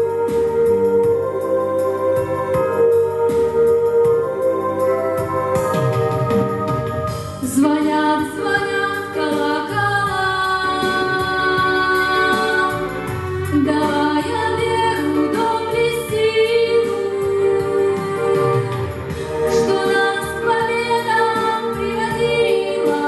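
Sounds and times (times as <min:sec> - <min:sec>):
instrumental accompaniment: 0:00.0 - 0:23.0.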